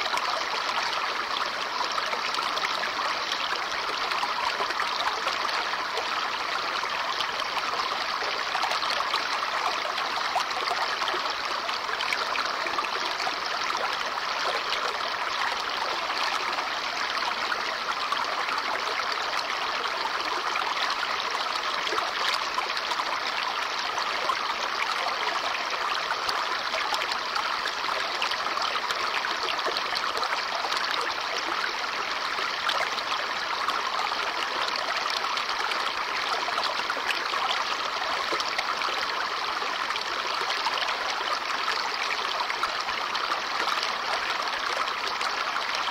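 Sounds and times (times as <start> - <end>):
brook babbling over stones: 0.0 - 45.9.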